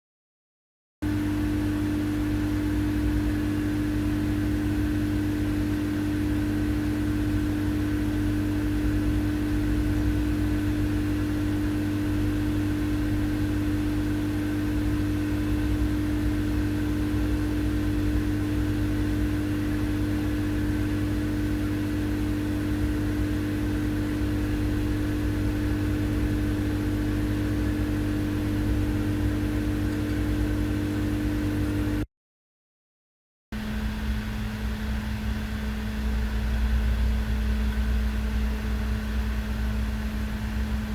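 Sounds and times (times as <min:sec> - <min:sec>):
cooling fans whirring: 0:01.0 - 0:32.0, 0:33.6 - 0:40.9.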